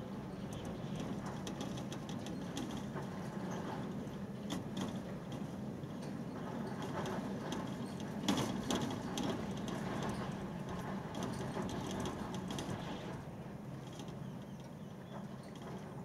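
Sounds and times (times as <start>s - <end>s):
gusting wind: 0.0s - 16.0s.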